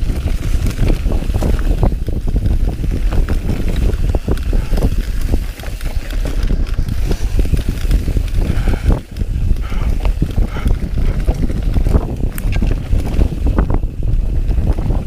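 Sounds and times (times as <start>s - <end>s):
bike rattling over bumps: 0.0s - 15.0s
wind buffeting microphone: 0.0s - 15.0s.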